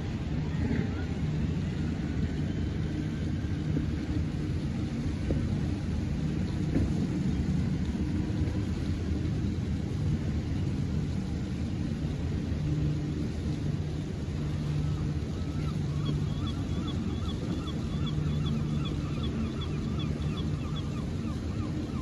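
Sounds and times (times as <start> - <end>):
boat engines running flat out: 0.0 - 22.0
wind on microphone: 0.0 - 22.0.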